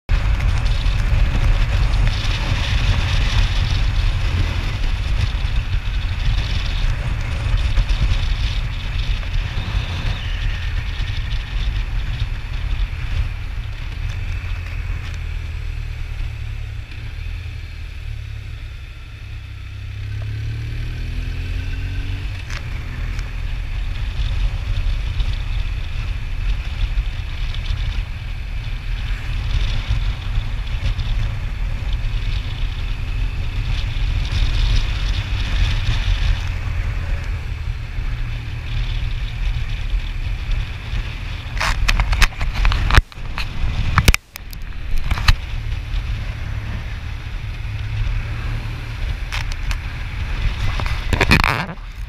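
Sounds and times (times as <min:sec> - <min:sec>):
motorcycle engine rumble: 0:00.0 - 0:52.0
wind on microphone: 0:00.1 - 0:52.0.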